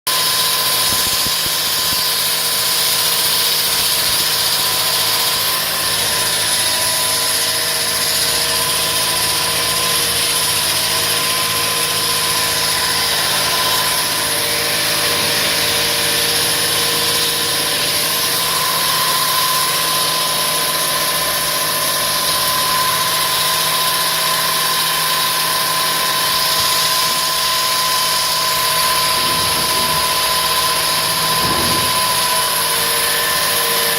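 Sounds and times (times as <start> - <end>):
concrete saw whining: 0.1 - 33.9.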